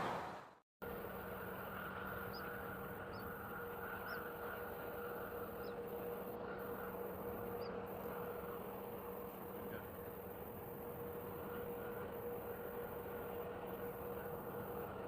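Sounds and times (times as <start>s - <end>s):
background hum and hiss: 0.8s - 15.0s.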